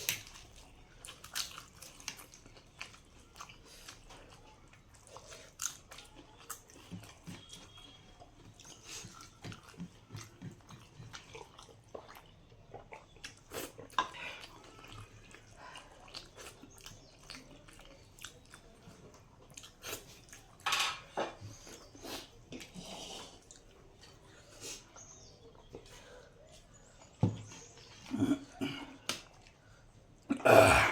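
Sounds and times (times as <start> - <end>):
person chewing and smacking: 0.0 - 20.6, 25.0 - 29.6.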